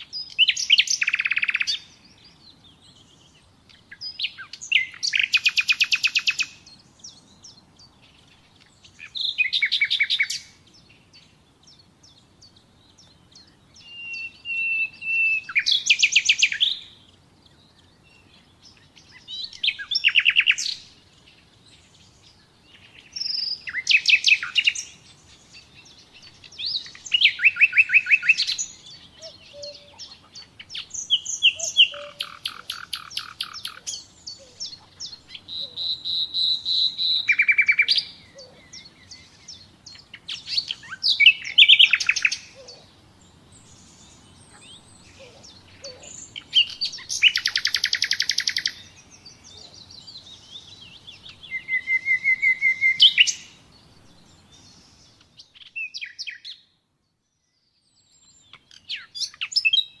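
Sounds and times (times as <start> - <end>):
nightingale singing: 0.0 - 60.0.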